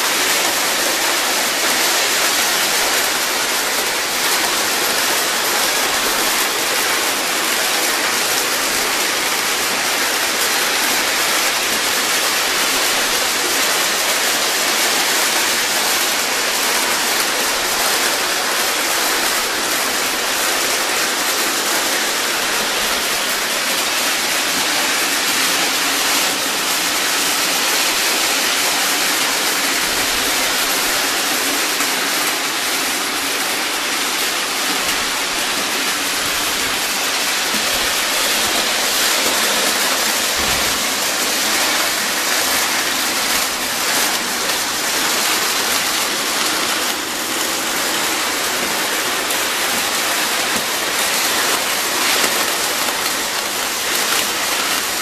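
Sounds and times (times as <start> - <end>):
toy train wheels rushing on track: 0.0 - 55.0.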